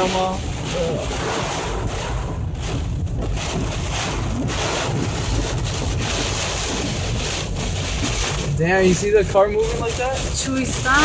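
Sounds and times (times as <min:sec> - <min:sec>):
strong wind gusts: 0:00.0 - 0:11.0
wind buffeting microphone: 0:00.0 - 0:11.0.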